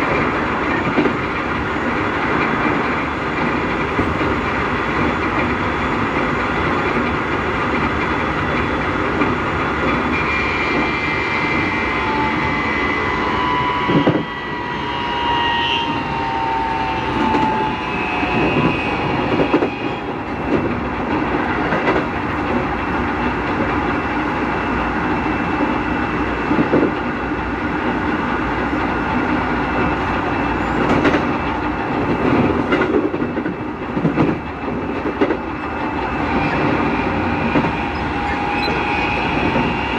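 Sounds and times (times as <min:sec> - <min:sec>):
train running noise: 0:00.0 - 0:39.9
electric train motors whining: 0:01.5 - 0:32.7, 0:34.8 - 0:39.9.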